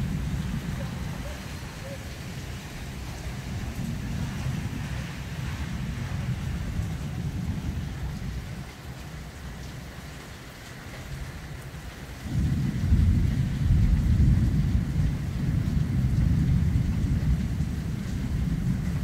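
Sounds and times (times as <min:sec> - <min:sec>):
thunder rumbling: 0:00.0 - 0:09.4, 0:12.2 - 0:19.0
steady rain: 0:00.0 - 0:19.0.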